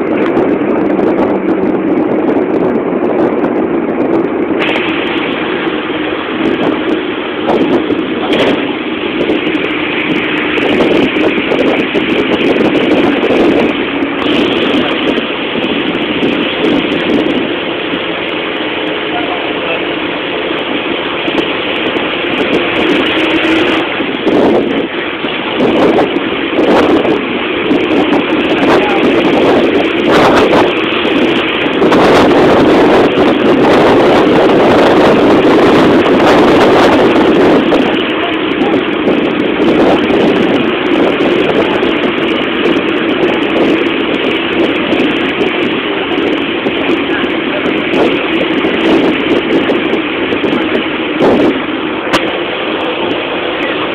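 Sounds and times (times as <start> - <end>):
road and wind noise: 0.0 - 53.9
vehicle engine hum: 0.0 - 53.9.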